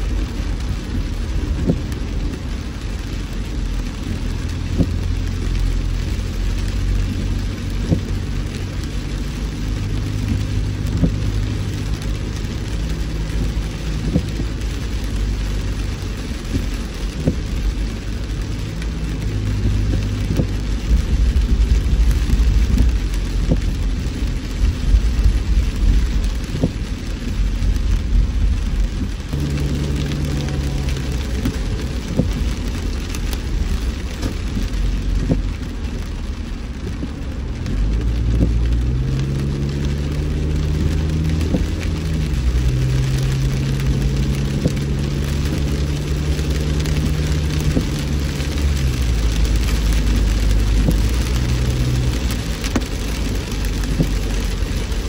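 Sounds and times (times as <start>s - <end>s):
car engine hum: 0.0s - 55.0s
heavy rain pattering on vehicle: 0.0s - 55.0s
road noise rumble: 0.0s - 55.0s.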